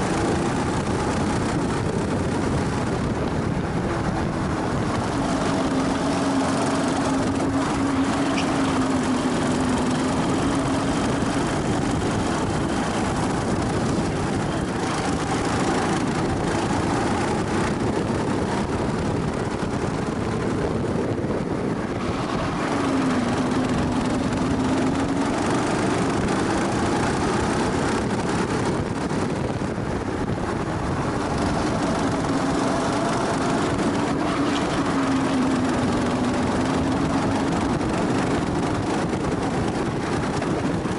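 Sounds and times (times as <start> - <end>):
go-kart engine running: 0.0 - 40.9
steady rush of noise: 0.0 - 40.9.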